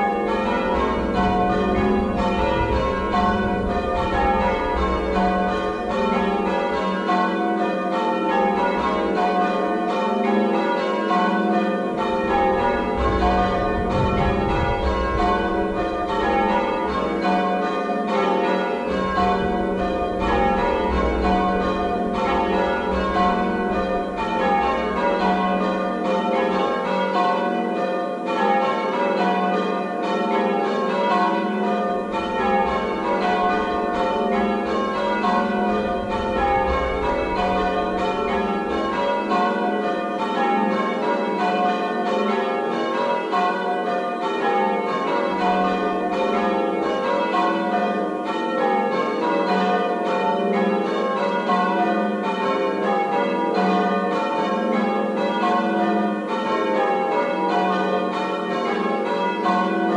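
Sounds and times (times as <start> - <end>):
church bells change ringing: 0.0 - 59.9.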